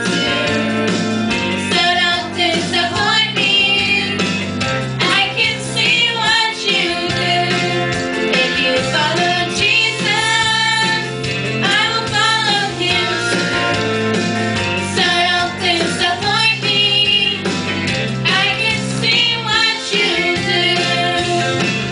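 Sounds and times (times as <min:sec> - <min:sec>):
women singing gospel: 0:00.0 - 0:04.3, 0:05.0 - 0:13.5, 0:14.9 - 0:17.4, 0:18.3 - 0:21.7
instrumental accompaniment: 0:00.0 - 0:21.9.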